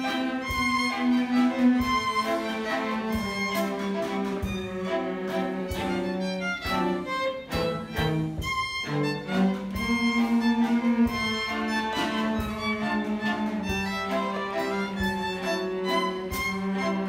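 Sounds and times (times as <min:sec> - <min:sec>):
string ensemble playing a waltz: 0:00.0 - 0:17.0.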